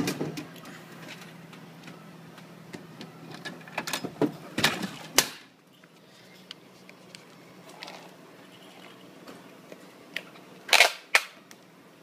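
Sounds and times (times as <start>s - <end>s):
low steady machine hum: 0.0s - 10.8s.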